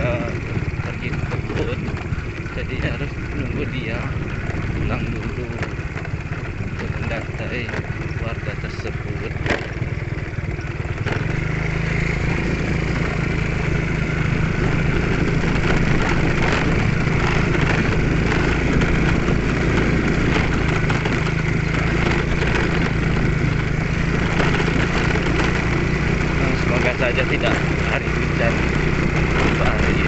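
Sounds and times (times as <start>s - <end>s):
small motorcycle engine running: 0.0s - 30.0s.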